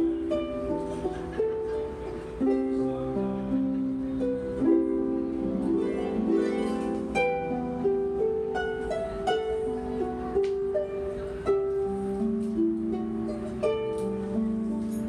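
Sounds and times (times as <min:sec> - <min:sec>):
harp plucked notes and chords: 0:00.0 - 0:15.0.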